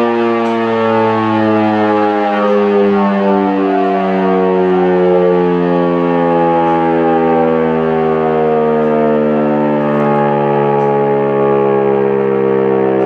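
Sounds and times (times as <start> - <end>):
civil defence siren wailing: 0.0 - 13.0.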